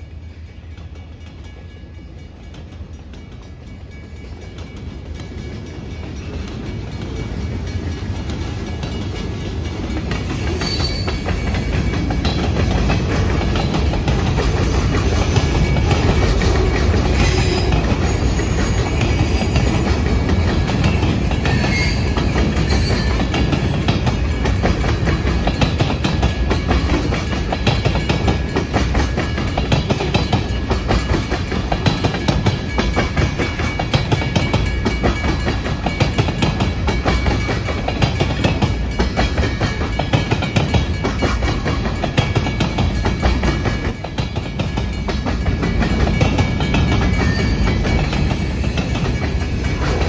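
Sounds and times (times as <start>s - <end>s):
heavy train rumble: 0.0s - 50.0s
wheels clicking over rail joints: 0.7s - 50.0s.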